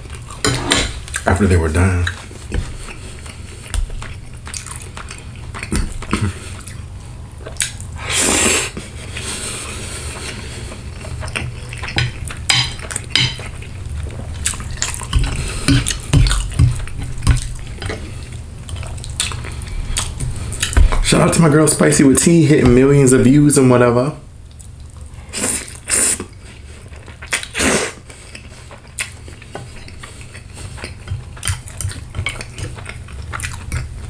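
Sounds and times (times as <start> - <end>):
wet chewing: 1.0 - 8.0, 8.7 - 21.1, 24.5 - 34.0.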